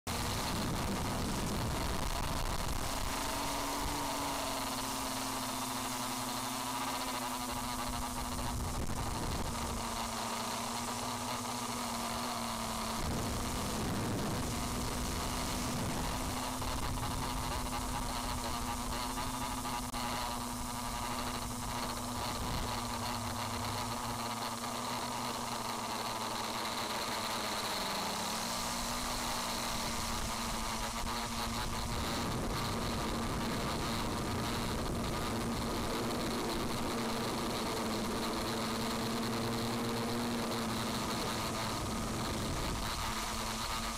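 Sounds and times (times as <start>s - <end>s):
drone propellers buzzing: 0.1s - 43.9s.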